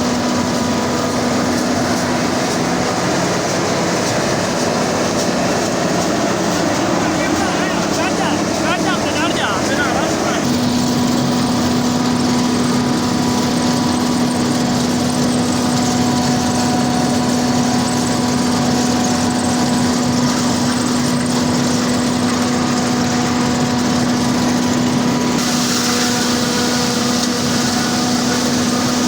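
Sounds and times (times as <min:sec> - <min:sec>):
harvesting machine running: 0:00.0 - 0:29.0.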